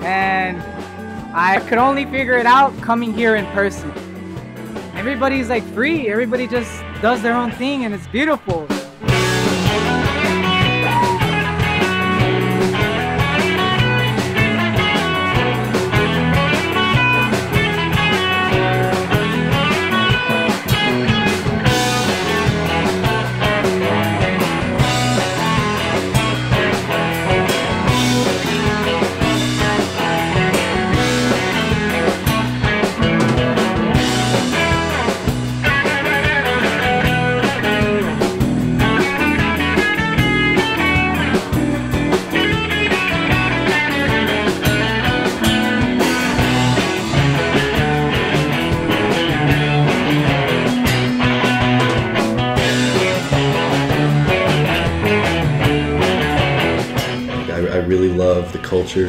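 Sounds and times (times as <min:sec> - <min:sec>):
drum kit: 0:00.0 - 0:57.9
electric guitars: 0:00.0 - 0:59.0.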